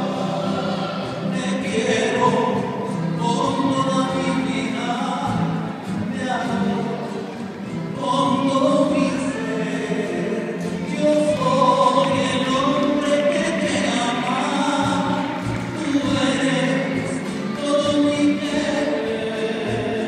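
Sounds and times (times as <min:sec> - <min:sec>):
voices singing in harmony: 0:00.0 - 0:20.0.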